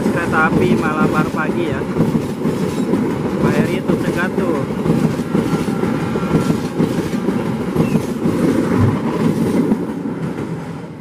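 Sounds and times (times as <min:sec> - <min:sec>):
train clattering: 0:00.0 - 0:11.0
train wheels rumbling on rails: 0:00.0 - 0:11.0.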